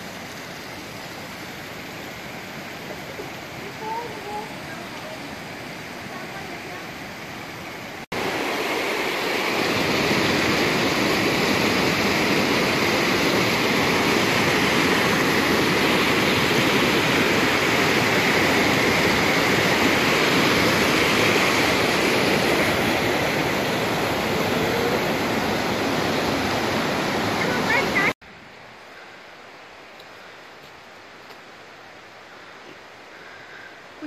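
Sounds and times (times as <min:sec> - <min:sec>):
water rushing over rapids: 0:00.0 - 0:29.9.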